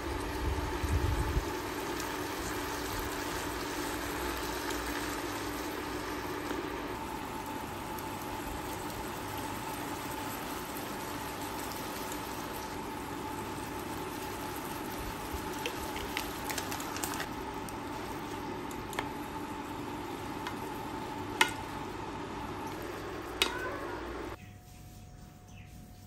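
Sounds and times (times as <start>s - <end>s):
food simmering and bubbling in a pan: 0.0s - 24.4s
steady hum: 0.0s - 25.2s.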